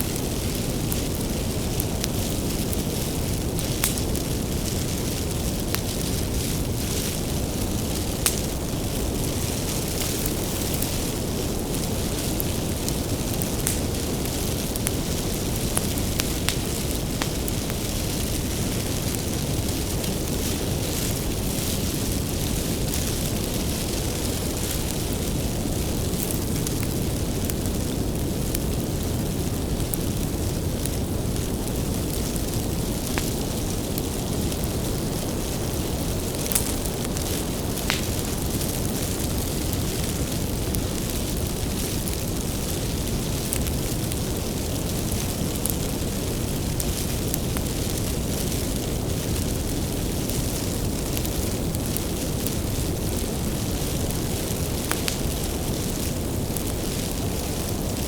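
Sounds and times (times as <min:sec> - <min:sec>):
low rumble of flames: 0:00.0 - 0:58.0
wood crackling and popping: 0:00.0 - 0:58.0.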